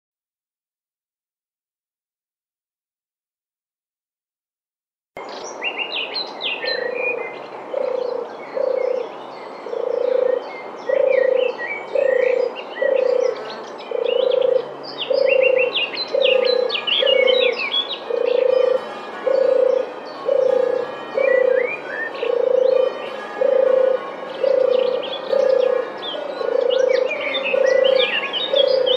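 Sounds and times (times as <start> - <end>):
small birds chirping: 5.2 - 28.9.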